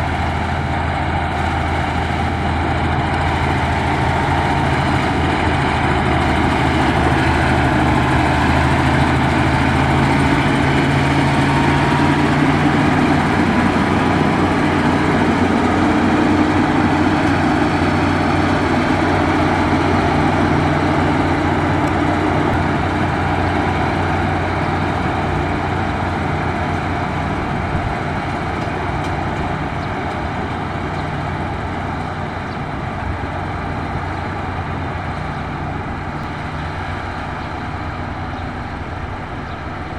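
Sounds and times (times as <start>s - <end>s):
dense rushing noise: 0.0s - 39.9s
diesel engine running: 0.0s - 39.9s.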